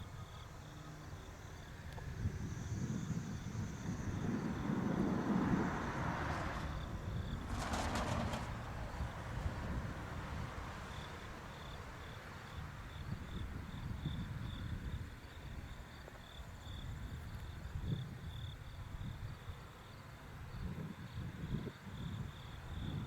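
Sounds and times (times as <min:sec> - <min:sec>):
insect chirping: 0:00.0 - 0:23.0
wind rumble on microphone: 0:00.0 - 0:23.0.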